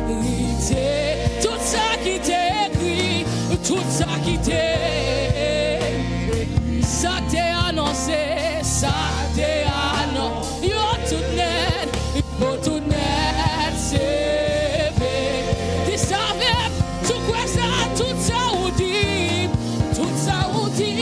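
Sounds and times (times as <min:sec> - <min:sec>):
woman singing into microphone: 0:00.0 - 0:21.0.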